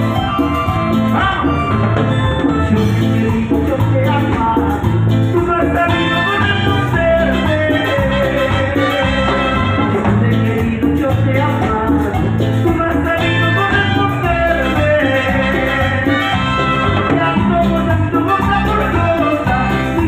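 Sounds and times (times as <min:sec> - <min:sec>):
congas: 0:00.0 - 0:20.0
salsa band playing: 0:00.0 - 0:20.0.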